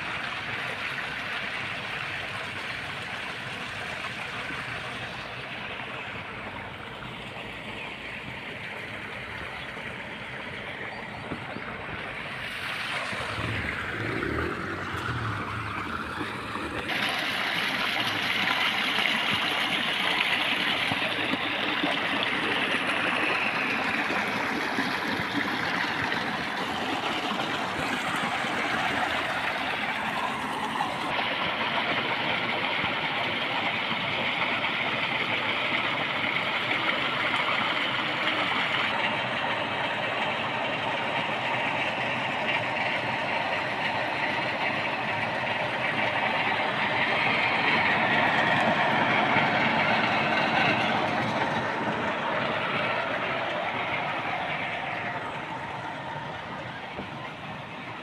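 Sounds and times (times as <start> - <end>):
water rushing along a channel: 0.0 - 58.0.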